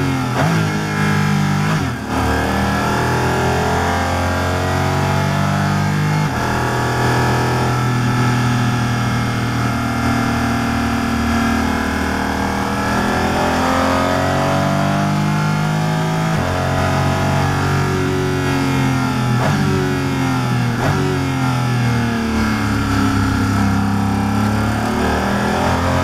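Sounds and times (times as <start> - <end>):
racing car engine revving: 0.0 - 26.0.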